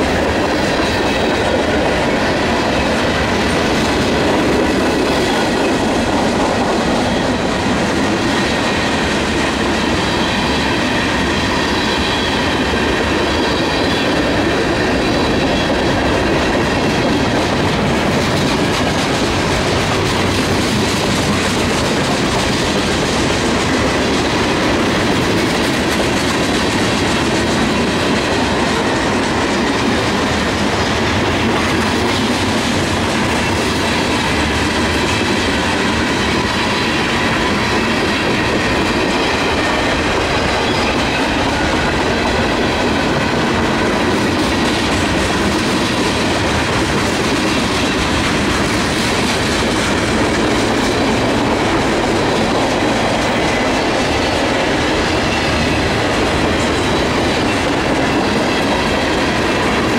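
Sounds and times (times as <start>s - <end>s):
train wheels clattering on rail: 0.0s - 59.9s.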